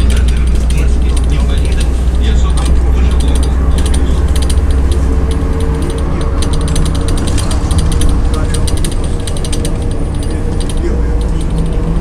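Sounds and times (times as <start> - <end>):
bus engine and road rumble: 0.0 - 12.0
cabin fittings rattling: 0.0 - 12.0.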